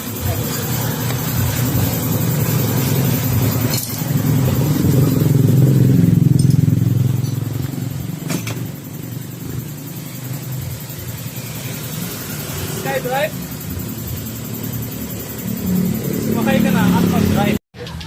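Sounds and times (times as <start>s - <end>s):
scooter engine revving: 0.0s - 17.6s.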